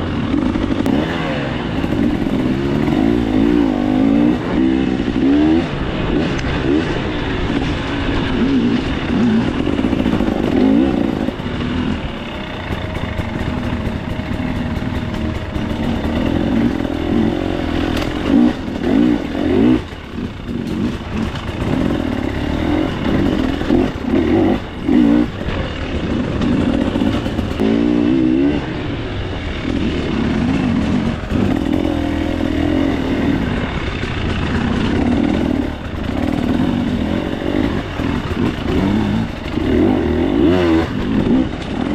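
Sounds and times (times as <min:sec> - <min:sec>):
bike rattling: 0:00.0 - 0:41.9
dirt bike engine revving: 0:00.0 - 0:41.9.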